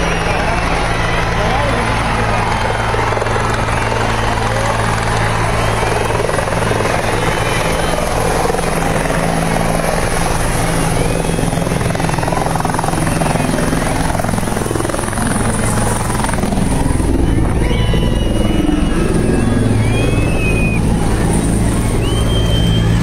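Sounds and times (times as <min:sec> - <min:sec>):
helicopter rotors and engine: 0:00.0 - 0:23.0.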